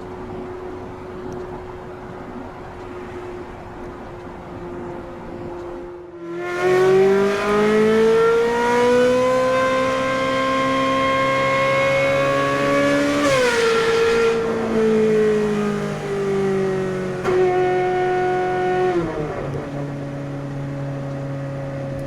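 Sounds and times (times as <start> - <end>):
sports car engine accelerating: 2.8 - 22.0.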